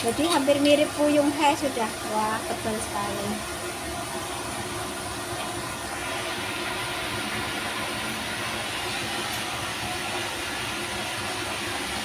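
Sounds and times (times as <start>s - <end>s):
omelette sizzling in oil: 0.0s - 12.0s.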